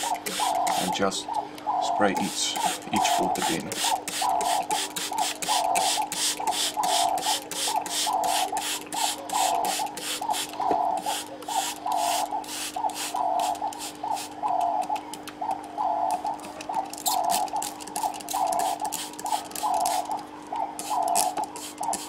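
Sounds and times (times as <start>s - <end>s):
spray bottle misting: 0.0s - 1.0s, 2.2s - 14.4s, 17.0s - 20.2s, 20.8s - 22.0s.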